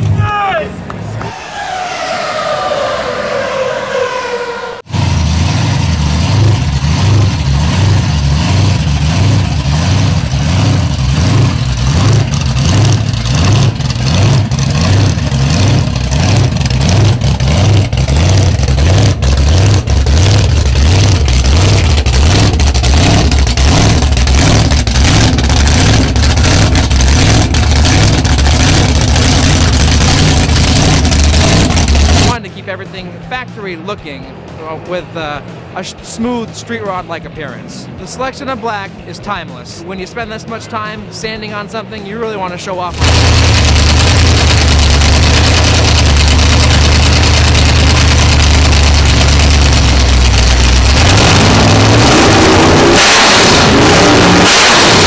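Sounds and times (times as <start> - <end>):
supercharged car engine idling: 1.0 - 55.0.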